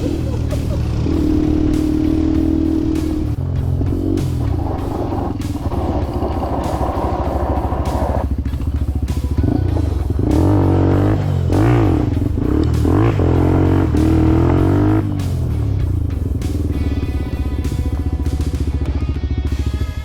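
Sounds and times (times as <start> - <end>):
small motorcycle engine revving: 0.0 - 20.0.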